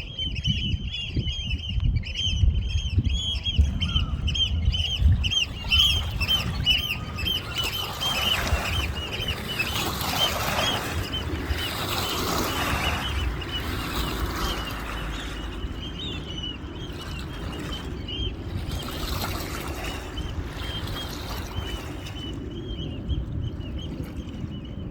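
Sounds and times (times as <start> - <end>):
waterbirds calling: 0.0 - 24.9.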